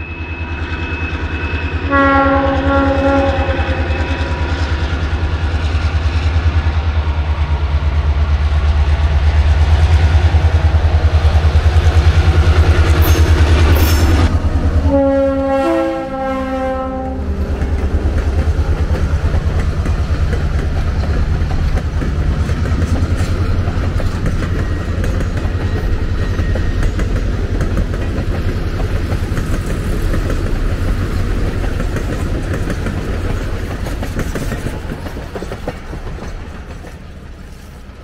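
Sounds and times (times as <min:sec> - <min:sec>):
diesel locomotive rumbling past: 0:00.0 - 0:38.0
steel wheels on rails: 0:00.0 - 0:38.0.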